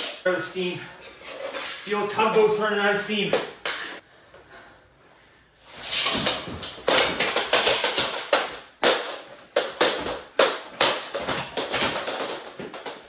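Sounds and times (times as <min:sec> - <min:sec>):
hockey sticks clacking and scraping: 0:00.0 - 0:04.0, 0:05.7 - 0:13.0.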